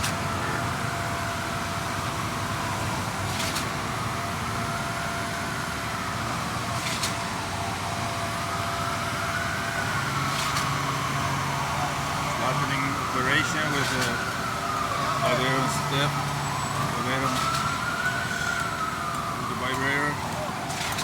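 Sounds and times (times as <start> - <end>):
heavy machinery running: 0.0 - 21.0.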